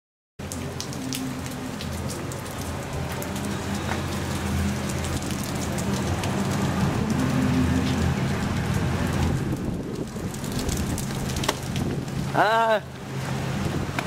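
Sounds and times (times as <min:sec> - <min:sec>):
rain falling: 0:00.4 - 0:14.0
vehicle engine humming: 0:00.4 - 0:14.0.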